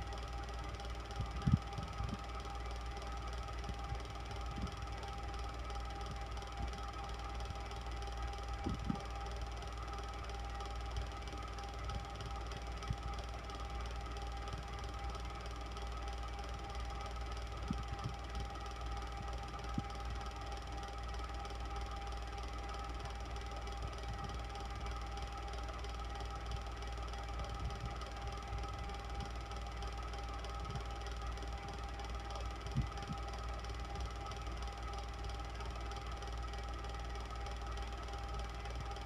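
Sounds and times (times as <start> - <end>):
electric fan whirring: 0.0 - 39.0.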